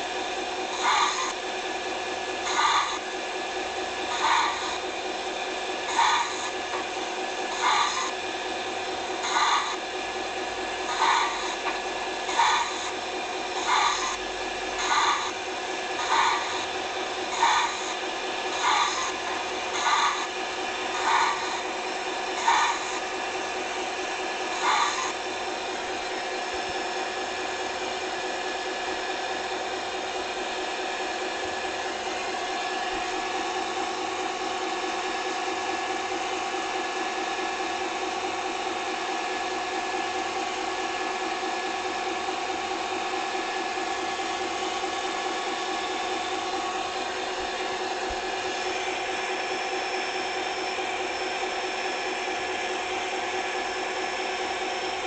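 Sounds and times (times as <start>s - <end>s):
machine humming with tones: 0.0s - 55.0s.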